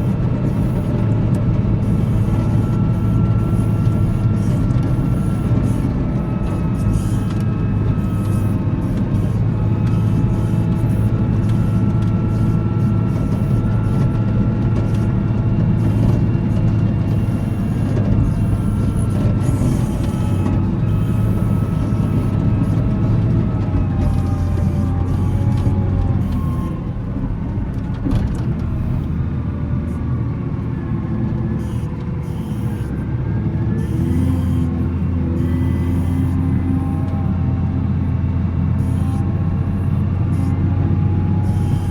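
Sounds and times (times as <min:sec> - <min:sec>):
diesel engine running under load: 0:00.0 - 0:41.9.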